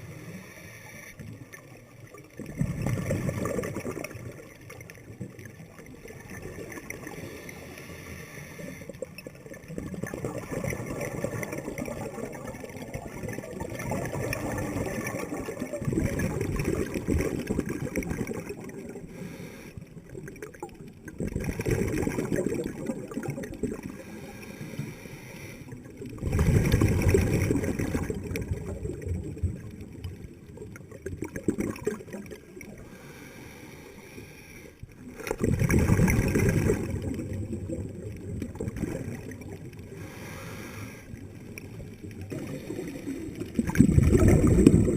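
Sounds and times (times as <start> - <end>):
underwater bubbles gurgling: 0.0 - 44.9.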